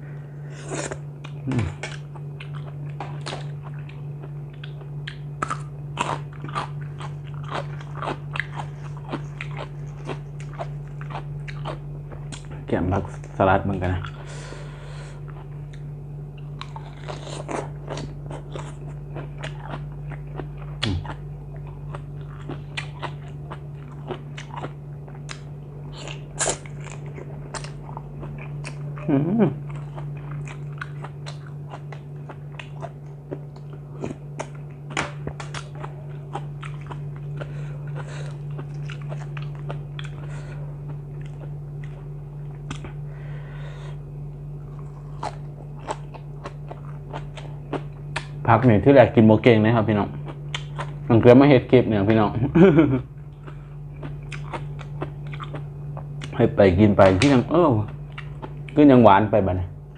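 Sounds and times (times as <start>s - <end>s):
steady low hum: 0.0s - 59.9s
person chewing crunchy food: 0.6s - 48.5s, 49.9s - 51.1s, 52.1s - 58.8s.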